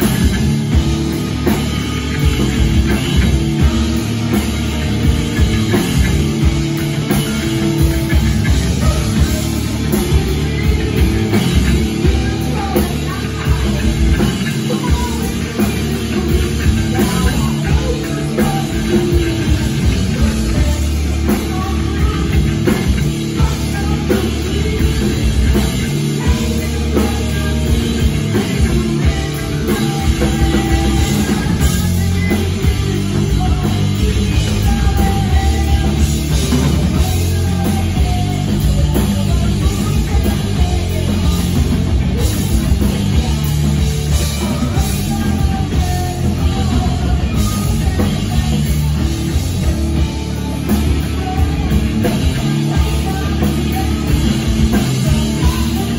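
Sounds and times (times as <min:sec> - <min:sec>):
bass guitar: 0:00.0 - 0:55.9
distorted electric guitar: 0:00.0 - 0:55.9
drum kit: 0:00.0 - 0:55.9
woman singing: 0:07.2 - 0:55.9.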